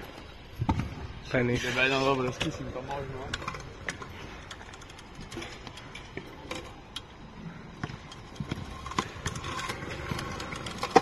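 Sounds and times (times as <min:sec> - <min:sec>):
scooter rolling over pavement: 0:00.1 - 0:11.0
scooter clicks and knocks: 0:02.2 - 0:11.0.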